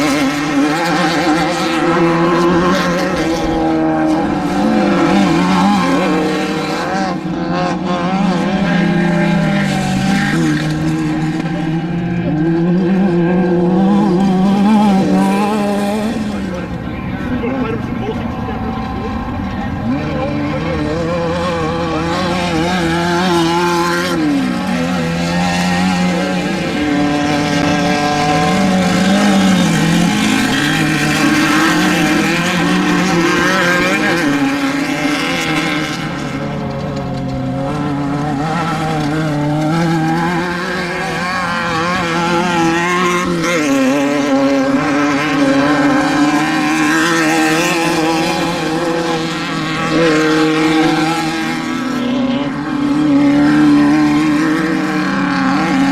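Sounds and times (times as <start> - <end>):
race vehicle engines at speed: 0.0 - 55.9.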